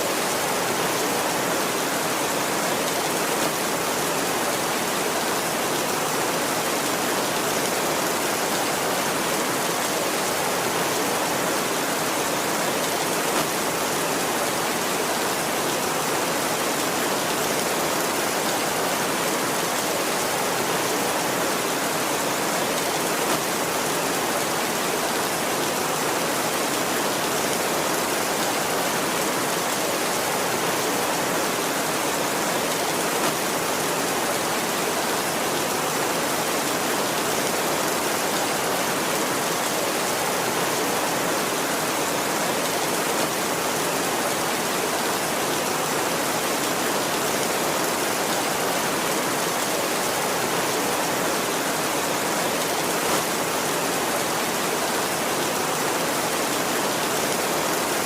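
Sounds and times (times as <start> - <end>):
heavy rain on a tin roof: 0.0 - 58.0.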